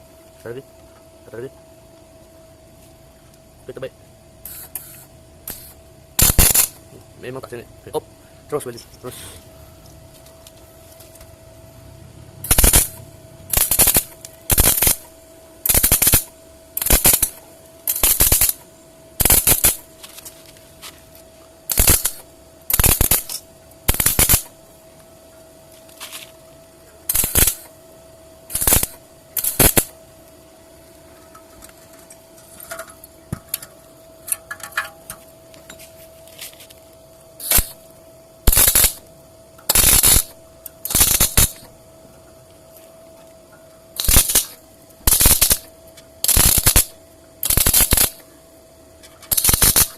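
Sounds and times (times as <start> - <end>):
faint steady whine: 0.0 - 49.9
arc welder crackling: 2.7 - 41.8, 42.4 - 48.3, 49.0 - 49.9.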